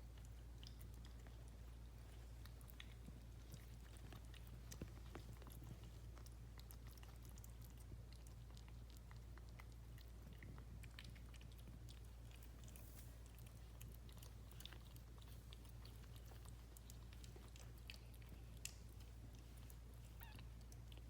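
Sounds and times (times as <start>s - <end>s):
low steady hum: 0.0s - 21.0s
cat and kittens wet clicks: 0.1s - 21.0s.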